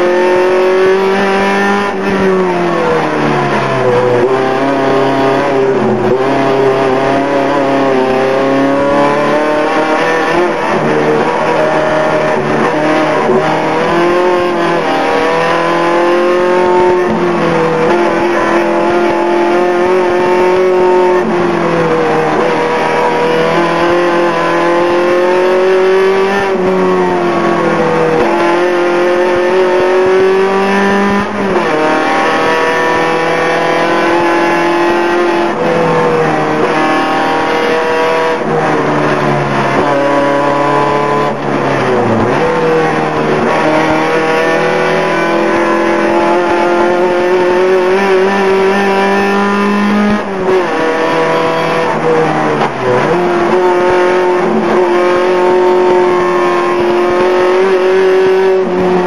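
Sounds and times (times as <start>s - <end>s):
race car engine accelerating hard: 0.0s - 59.0s.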